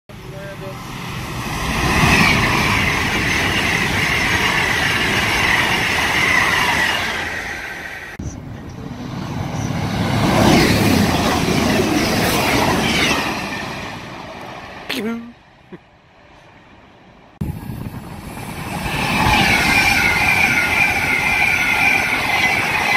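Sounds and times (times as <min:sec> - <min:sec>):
trains rushing past: 0:00.1 - 0:22.9.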